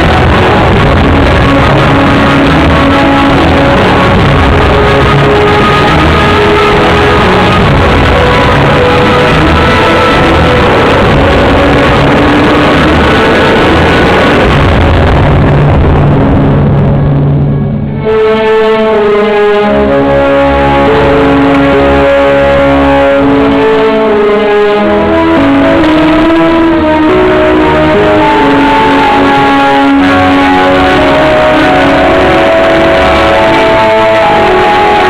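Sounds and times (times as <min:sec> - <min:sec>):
loud dense instrumental music: 0:00.0 - 0:35.0.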